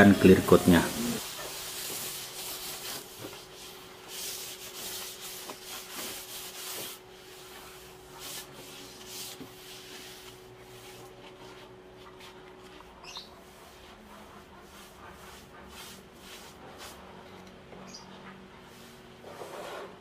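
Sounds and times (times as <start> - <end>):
hand sanding wood: 0.0 - 17.2.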